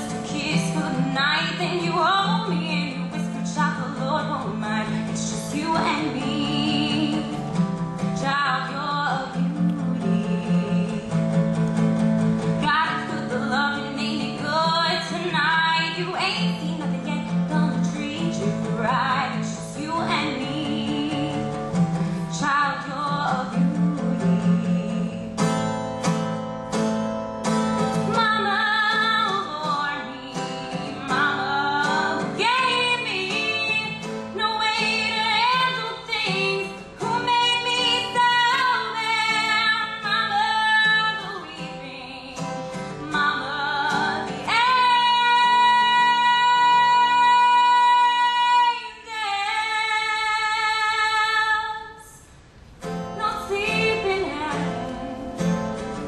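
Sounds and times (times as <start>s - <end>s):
woman singing: 0.0s - 11.8s, 12.4s - 25.8s, 27.8s - 52.3s, 53.1s - 56.0s
strummed acoustic guitar: 0.0s - 48.7s, 52.3s - 56.0s.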